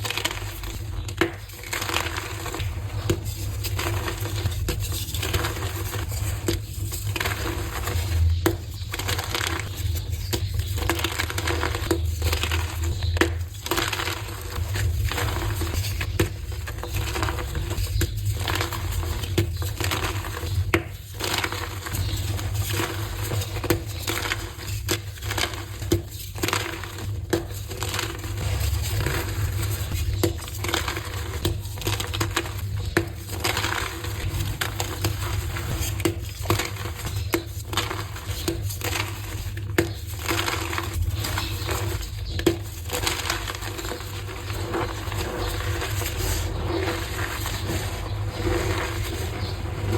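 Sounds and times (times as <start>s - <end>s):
chalk being crushed: 0.0s - 49.9s.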